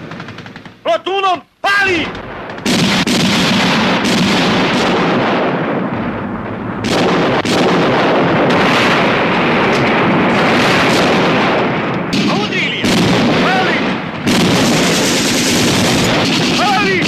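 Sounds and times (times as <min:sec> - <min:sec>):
field guns firing: 0:00.0 - 0:01.2, 0:01.9 - 0:17.0
shells exploding: 0:02.0 - 0:17.0.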